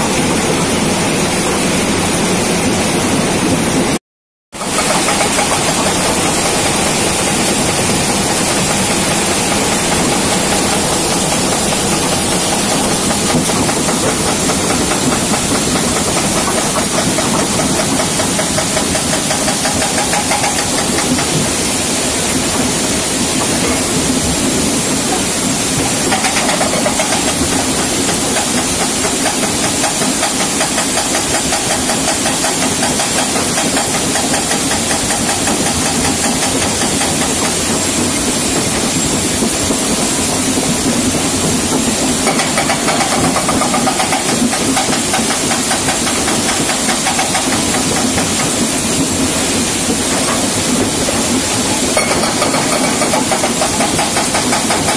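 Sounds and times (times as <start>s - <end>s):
hydraulic breaker hammering stone: 4.6s - 54.9s.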